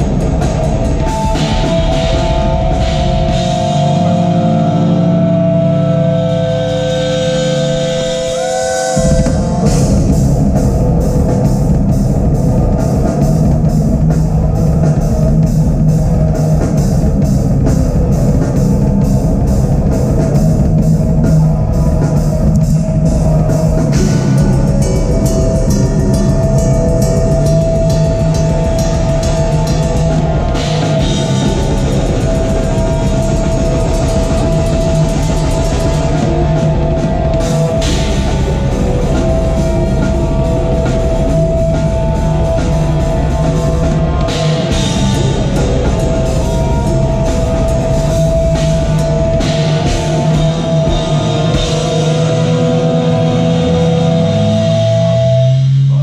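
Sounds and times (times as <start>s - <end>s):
metal band playing live: 0.0s - 56.0s.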